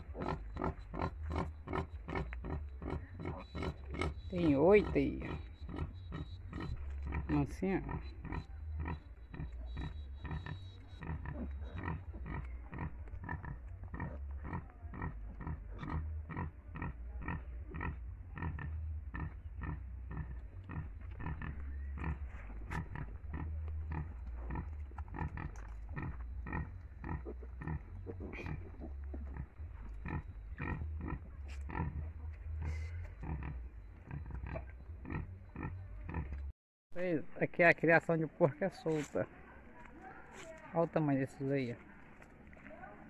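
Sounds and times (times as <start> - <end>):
pig grunting: 0.0 - 36.5.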